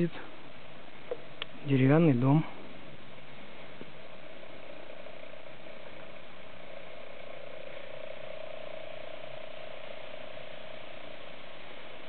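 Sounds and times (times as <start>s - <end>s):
faint hum: 0.0s - 12.0s
steady hiss: 0.0s - 12.0s.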